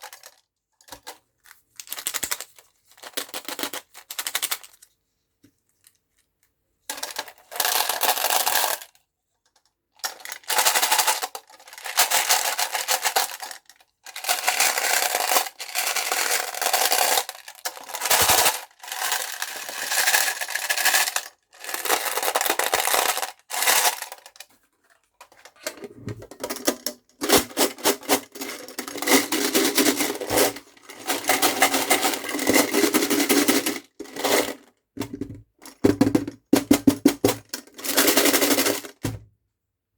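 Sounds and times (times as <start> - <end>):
candies rattling in a metal box: 0.0 - 4.8, 6.9 - 9.0, 10.0 - 24.5, 25.2 - 39.2.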